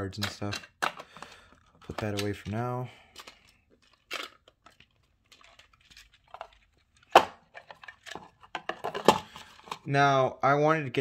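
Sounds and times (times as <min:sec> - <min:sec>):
box rustling: 0:00.8 - 0:09.9.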